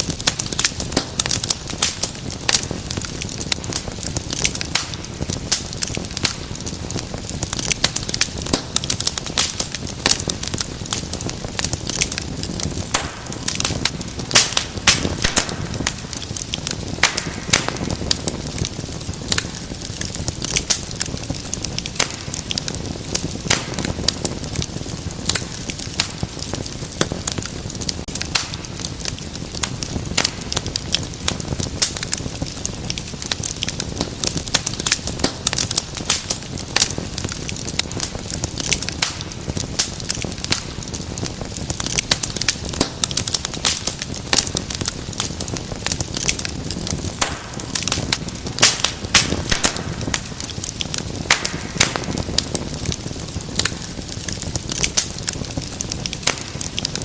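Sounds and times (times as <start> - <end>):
low rumble of flame: 0.0 - 57.0
wood fire crackling and popping: 0.0 - 57.0.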